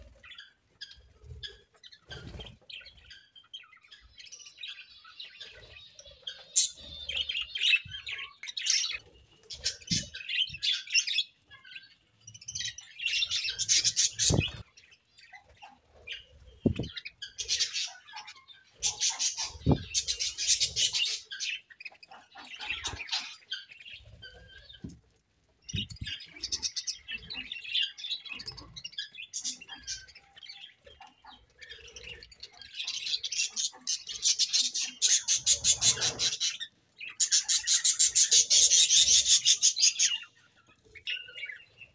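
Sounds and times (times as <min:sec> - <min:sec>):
budgerigars chattering and chirping: 0:00.0 - 0:24.9, 0:25.7 - 0:41.9.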